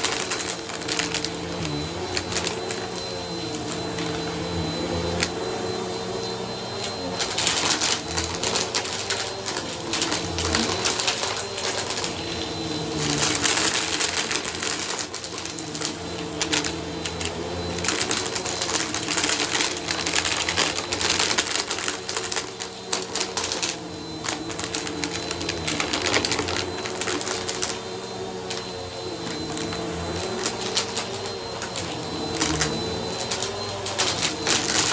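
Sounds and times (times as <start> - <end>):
vacuum cleaner motor humming: 0.0 - 34.9.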